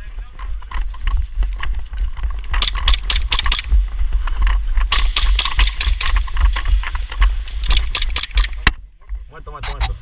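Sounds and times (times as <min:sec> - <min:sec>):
sharp clicks and rattles: 0:00.0 - 0:10.0
steady low rumble: 0:00.0 - 0:10.0.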